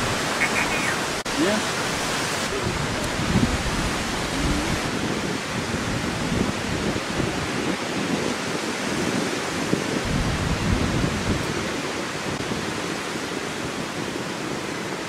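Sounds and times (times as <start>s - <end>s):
rushing wind: 0.0s - 15.0s
wind buffeting microphone: 0.0s - 15.0s.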